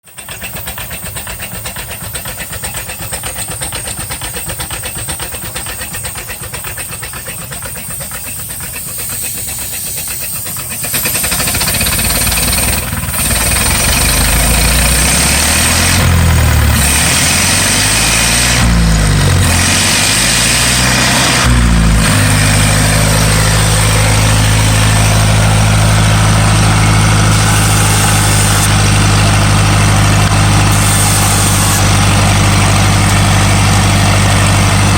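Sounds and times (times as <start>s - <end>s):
steam engine chuffing: 0.0s - 34.9s.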